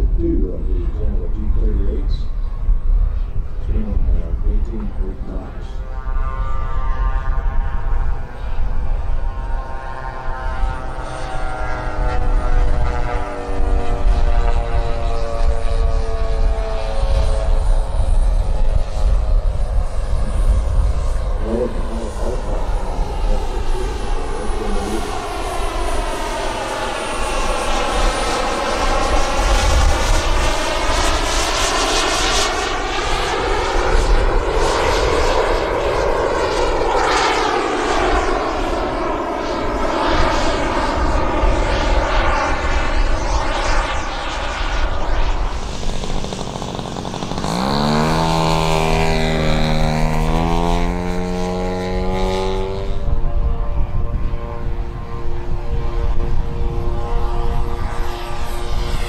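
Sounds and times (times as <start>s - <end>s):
model jet engine flying overhead: 0.0s - 59.0s
model propeller engine at full power: 0.0s - 59.0s.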